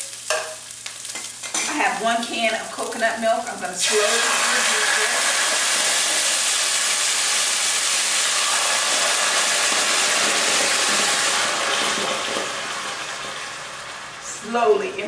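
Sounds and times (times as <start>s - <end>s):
liquid sizzling in a hot pan: 0.0s - 15.0s.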